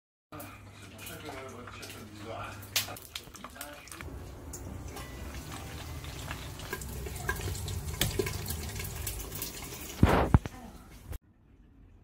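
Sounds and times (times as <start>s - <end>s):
stew bubbling in a pot: 0.3s - 10.6s.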